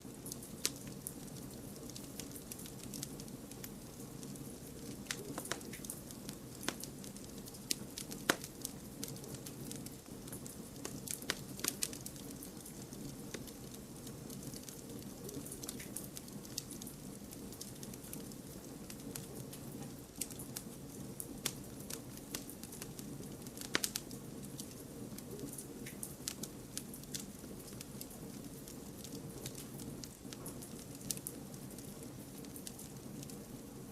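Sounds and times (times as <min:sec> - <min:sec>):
campfire crackling and popping: 0:00.0 - 0:33.9
low rush of flames: 0:00.0 - 0:33.9.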